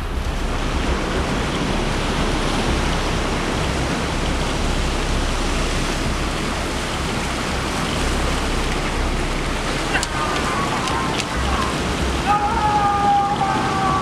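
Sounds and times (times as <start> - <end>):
surf breaking on rocks: 0.0 - 14.0.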